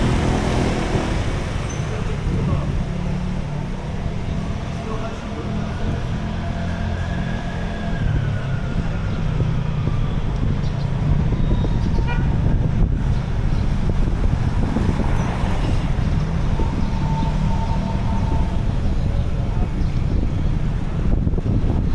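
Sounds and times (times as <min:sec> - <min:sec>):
traffic engines passing: 0:00.0 - 0:21.9
wind rumbling on microphone: 0:00.0 - 0:21.9.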